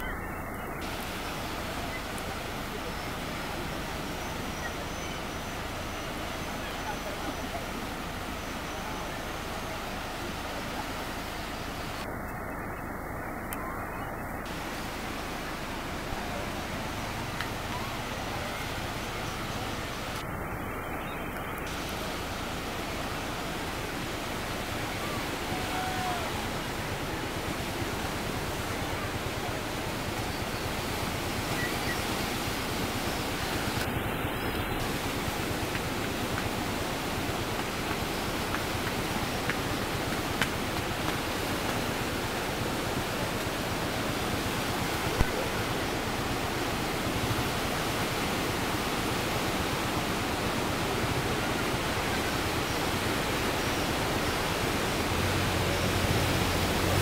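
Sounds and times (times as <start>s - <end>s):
tidal bore waves rushing: 0.0s - 57.0s.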